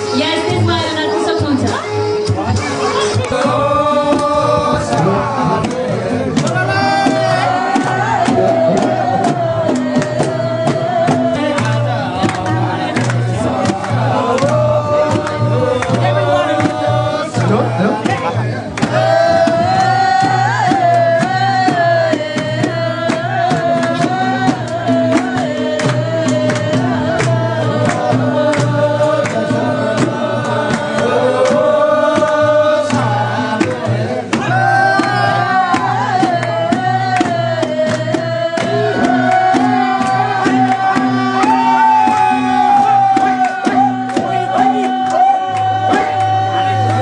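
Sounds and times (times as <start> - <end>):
people singing folk song: 0.0 - 47.0
frame drum beating: 3.2 - 46.5.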